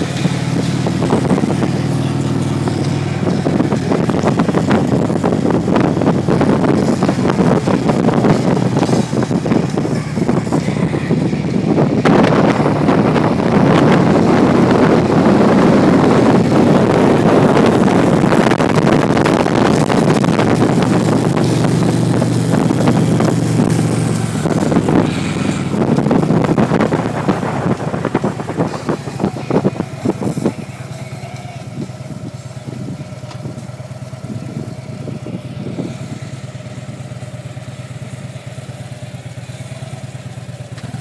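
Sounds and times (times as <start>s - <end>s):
wind buffeting microphone: 0.0s - 38.6s
motorcycle engine: 0.0s - 41.0s.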